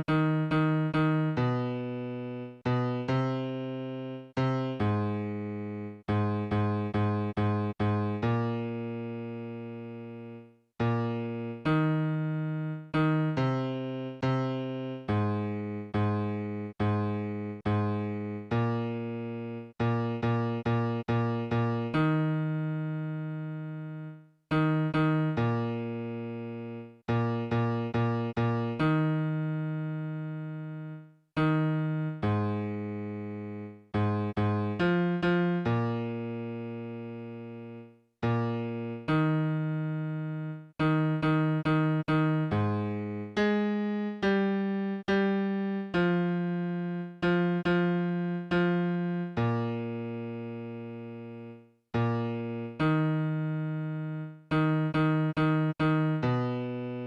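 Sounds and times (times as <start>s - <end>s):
electric piano bass line: 0.0s - 57.0s.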